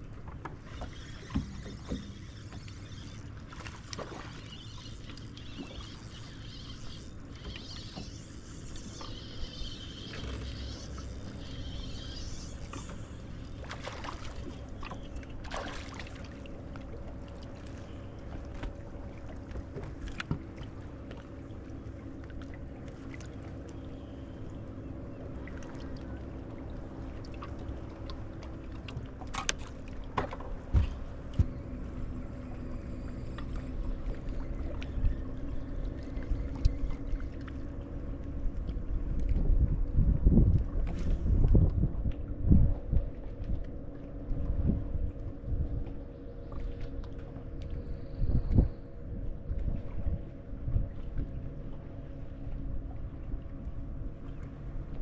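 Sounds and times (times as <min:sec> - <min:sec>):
electric trolling motor humming: 0:00.0 - 0:55.0
low wind rumble: 0:00.0 - 0:55.0
water lapping at hull: 0:00.0 - 0:55.0.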